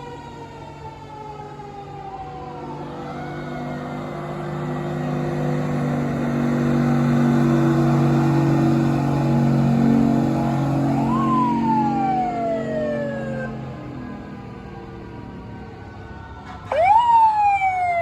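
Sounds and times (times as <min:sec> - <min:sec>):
fire truck passing: 0:00.0 - 0:18.0
siren wailing: 0:00.0 - 0:18.0.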